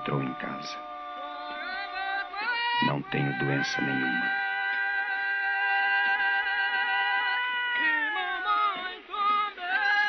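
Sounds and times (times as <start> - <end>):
wordless sung notes: 0.0 - 10.0.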